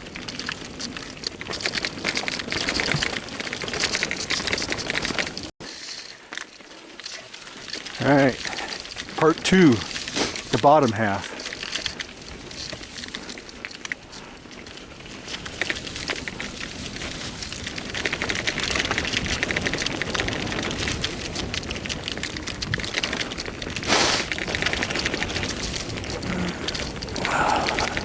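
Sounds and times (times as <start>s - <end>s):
bicycle tyres on gravel: 0.0s - 28.0s.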